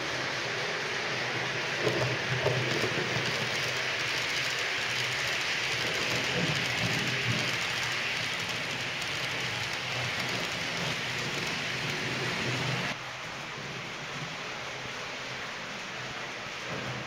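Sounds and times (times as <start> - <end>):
model train wheels hissing on rails: 0.0 - 17.0.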